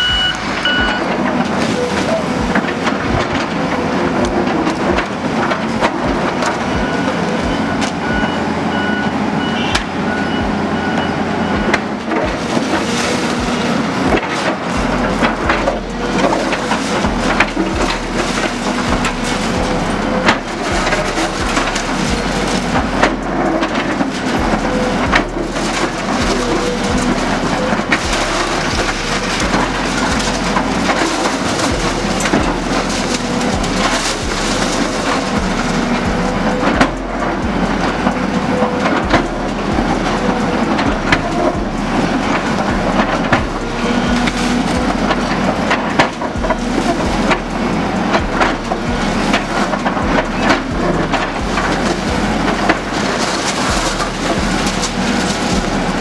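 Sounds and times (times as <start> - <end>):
concrete breaking and crushing: 0.0 - 56.0
excavator diesel engine under load: 0.0 - 56.0
reversing alarm beeping: 0.0 - 56.0.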